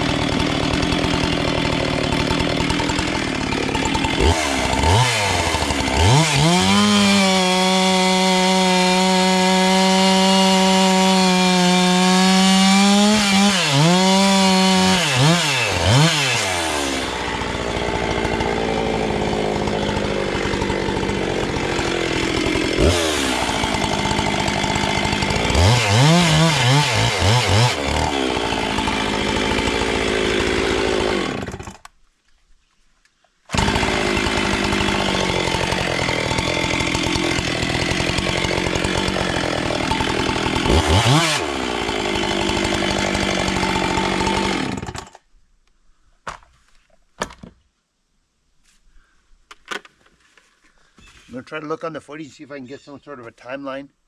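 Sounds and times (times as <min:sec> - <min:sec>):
chainsaw running at high revs: 0:00.0 - 0:31.8, 0:33.5 - 0:45.2.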